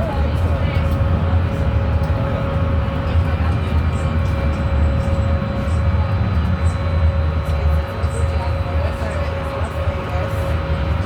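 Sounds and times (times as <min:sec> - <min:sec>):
cooling fan whining hum: 0:00.0 - 0:11.0
electric bus rumble: 0:00.0 - 0:11.0.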